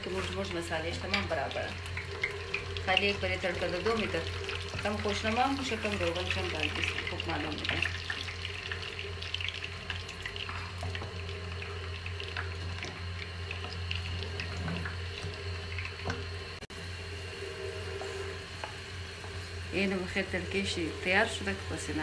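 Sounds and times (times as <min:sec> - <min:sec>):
low hum: 0:00.0 - 0:22.0
spices sizzling in hot oil: 0:00.0 - 0:22.0.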